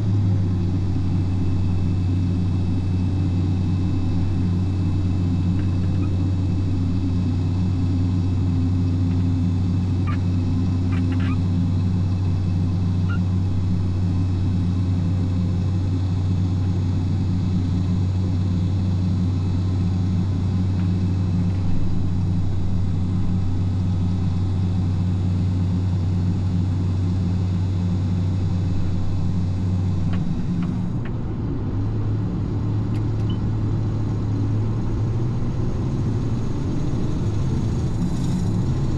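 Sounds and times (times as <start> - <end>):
harvester diesel engine humming: 0.0 - 38.9.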